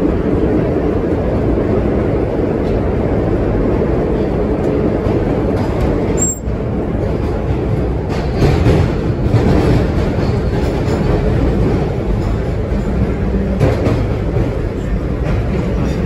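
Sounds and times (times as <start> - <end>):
subway car wheels rumbling on rail: 0.0 - 16.0.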